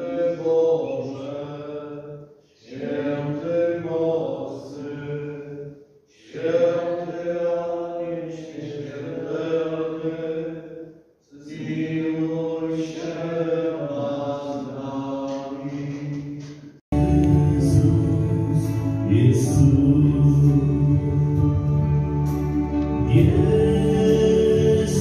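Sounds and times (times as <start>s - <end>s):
congregation singing a hymn: 0.0s - 25.0s.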